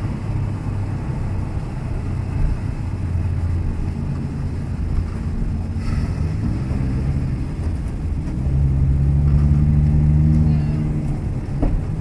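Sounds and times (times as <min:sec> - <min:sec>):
car engine at low revs: 0:00.0 - 0:12.0
road noise: 0:00.0 - 0:12.0.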